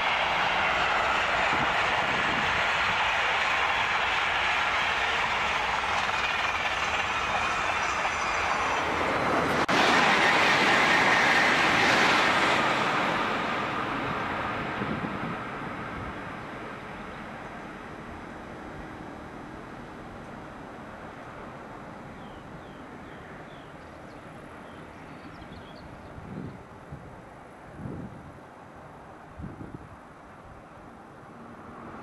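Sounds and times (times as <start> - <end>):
high-speed train passing: 0.0 - 32.0.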